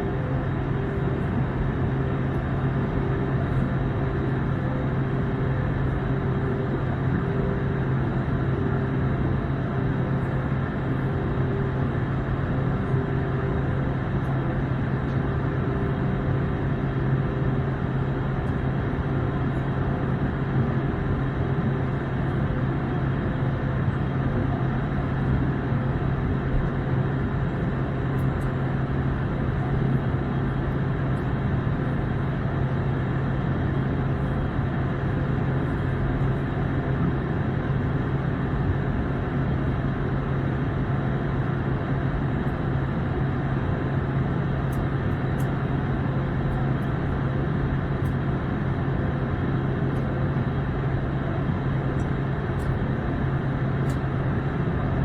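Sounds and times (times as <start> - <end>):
airflow rush in cabin: 0.0 - 55.0
low engine hum: 0.0 - 55.0.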